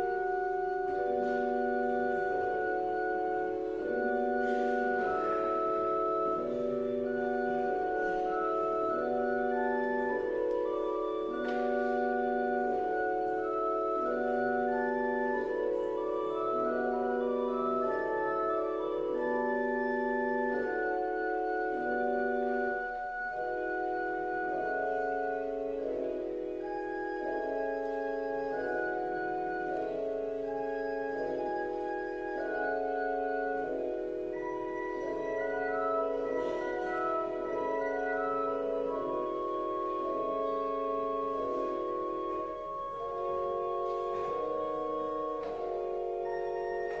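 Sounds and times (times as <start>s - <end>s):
church organ playing chords: 0.0s - 47.0s.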